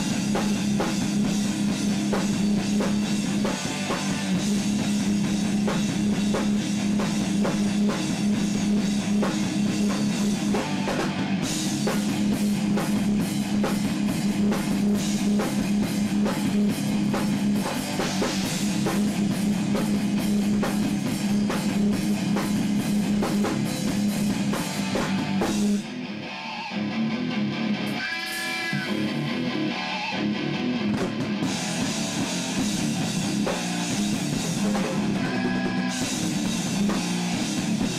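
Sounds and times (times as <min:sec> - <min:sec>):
bass guitar: 0:00.0 - 0:37.9
drum kit: 0:00.0 - 0:37.9
electric guitars: 0:00.0 - 0:37.9.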